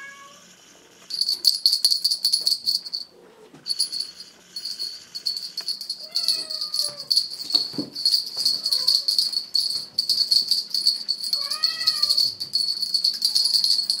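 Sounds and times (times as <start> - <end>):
small bells jingling: 1.1 - 14.0.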